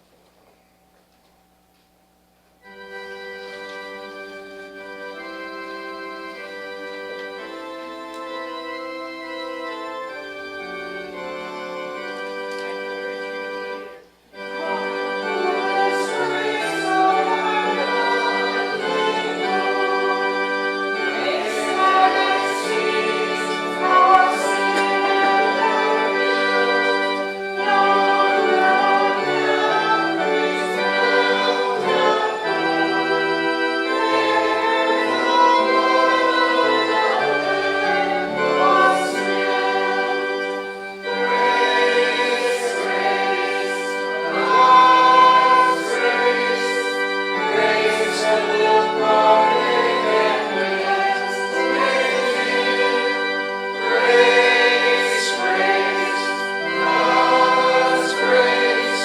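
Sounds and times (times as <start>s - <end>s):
organ chords: 0.0s - 59.0s
congregation singing a hymn: 2.6s - 59.0s.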